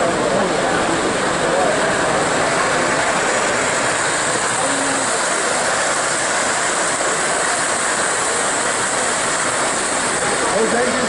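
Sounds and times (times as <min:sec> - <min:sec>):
crowd din in hall: 0:00.0 - 0:11.0
model train rolling: 0:00.0 - 0:11.0.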